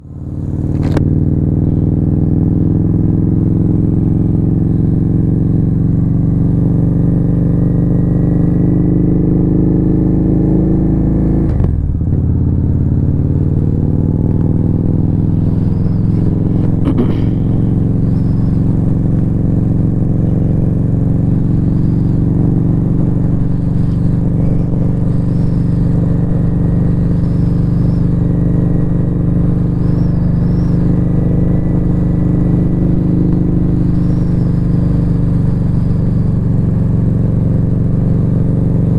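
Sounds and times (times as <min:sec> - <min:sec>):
motorcycle engine running at low revs: 0:00.0 - 0:38.9.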